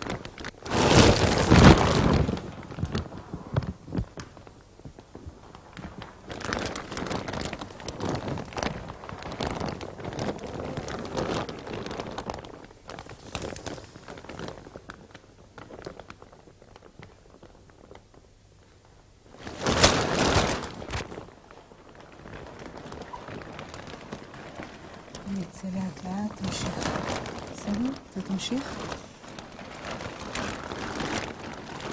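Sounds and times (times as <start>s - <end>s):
plastic sheet crinkling: 0.0s - 31.9s.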